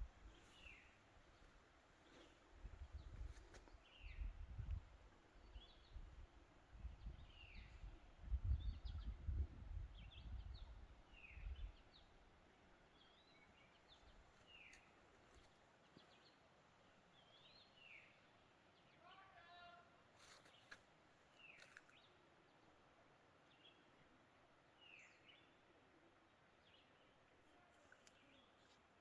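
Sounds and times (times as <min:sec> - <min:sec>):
faint birdsong chirps: 0:00.0 - 0:29.0.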